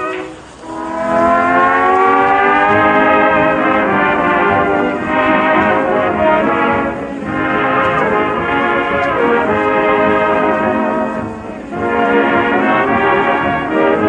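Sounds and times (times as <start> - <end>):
orchestra playing brass chords: 0.0 - 14.0.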